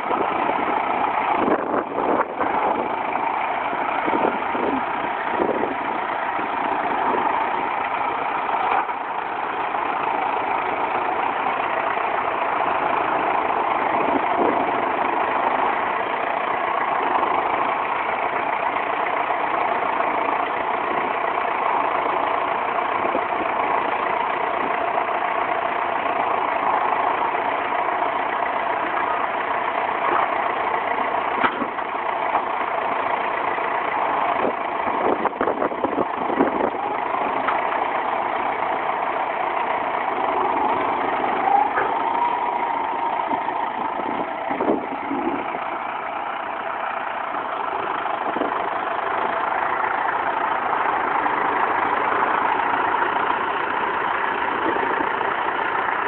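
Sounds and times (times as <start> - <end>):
loader knocks and clunks: 0.0 - 56.0
tractor diesel engine running: 0.0 - 56.0.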